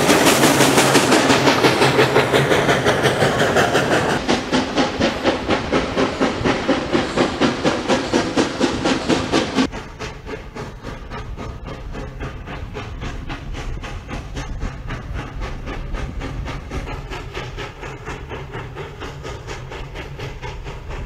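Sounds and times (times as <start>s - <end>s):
steam locomotive exhaust chuffing: 0.0s - 21.0s.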